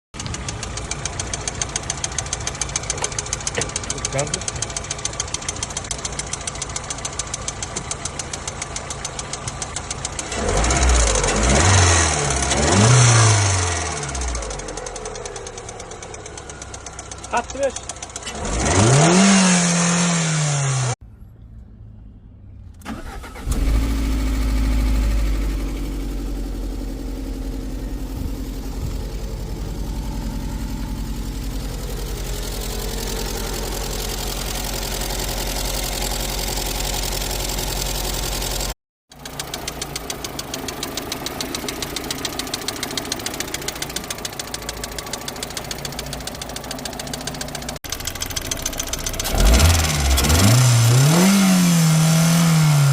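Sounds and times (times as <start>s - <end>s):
car engine revving and idling: 0.2s - 52.9s.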